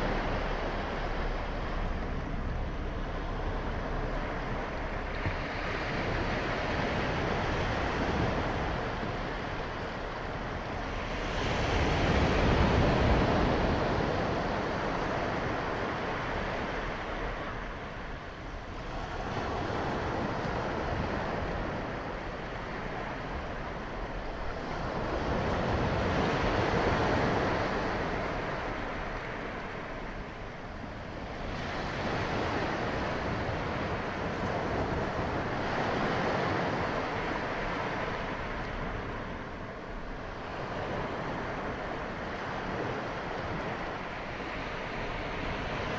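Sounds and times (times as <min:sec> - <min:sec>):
small waves breaking on beach: 0:04.0 - 0:45.9.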